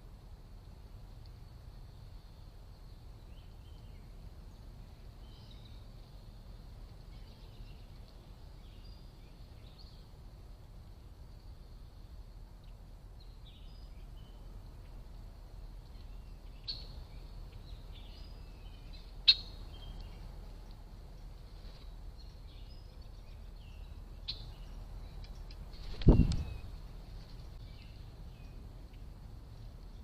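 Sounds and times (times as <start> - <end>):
low background rumble: 0.0 - 30.0
songbirds chirping: 0.0 - 30.0.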